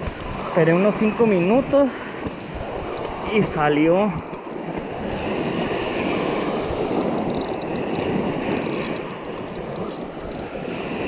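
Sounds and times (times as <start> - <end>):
surf washing on beach: 0.0 - 11.0
wind buffeting microphone: 0.0 - 11.0.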